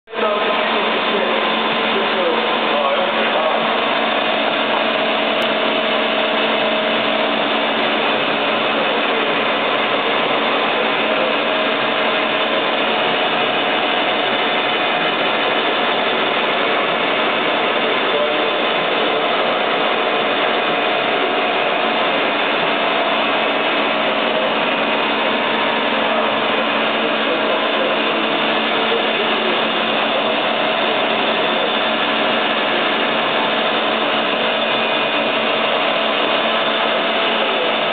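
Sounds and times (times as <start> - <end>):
lathe running: 0.1 - 37.9.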